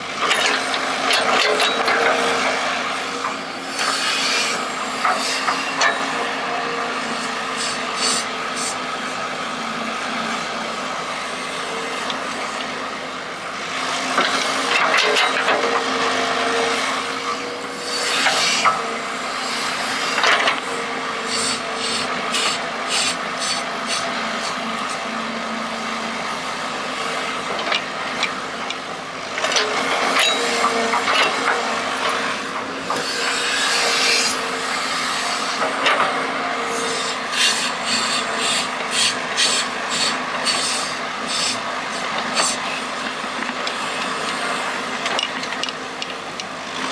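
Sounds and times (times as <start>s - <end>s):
pump motor whining: 0.3s - 46.9s.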